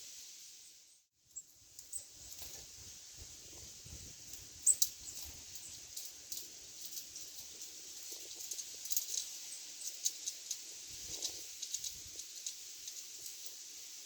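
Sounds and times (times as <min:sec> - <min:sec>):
steady high hiss: 0:00.0 - 0:14.0
birds pecking at a feeder: 0:01.7 - 0:13.9.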